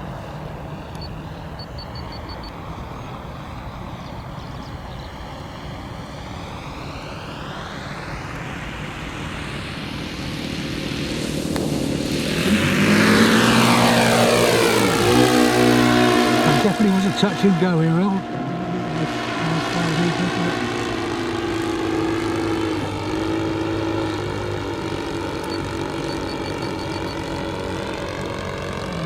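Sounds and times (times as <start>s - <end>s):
model plane engines running: 0.0s - 29.0s.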